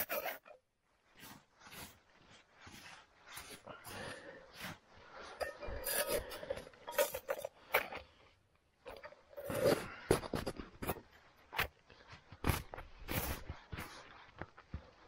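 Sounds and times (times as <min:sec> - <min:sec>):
scrapes and rustles of handling: 0:00.0 - 0:15.0.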